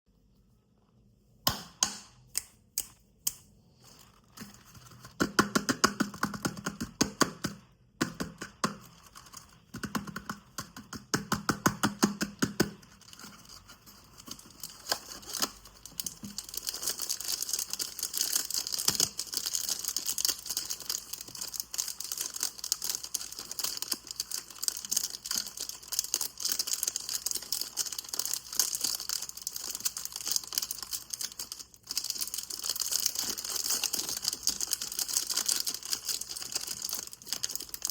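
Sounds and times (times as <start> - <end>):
dry soap crunching and crackling: 3.7 - 37.9.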